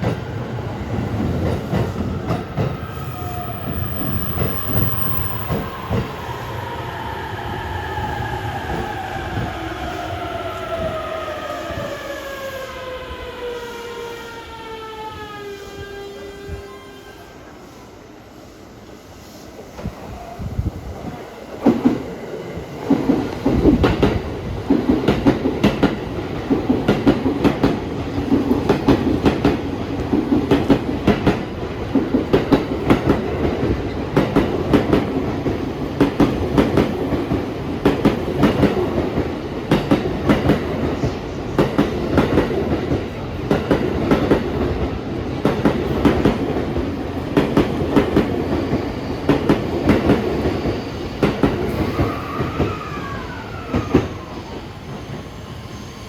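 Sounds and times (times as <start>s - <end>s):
train rolling rumble: 0.0s - 13.4s, 19.5s - 55.8s.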